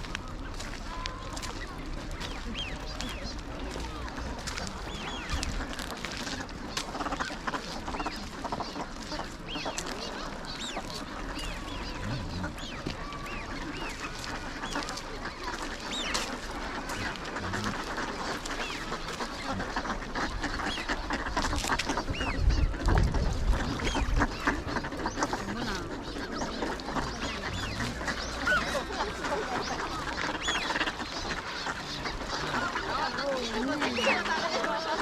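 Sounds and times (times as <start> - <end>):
ducks high whistling calls: 0.0 - 35.0
ducks quacking: 0.0 - 35.0.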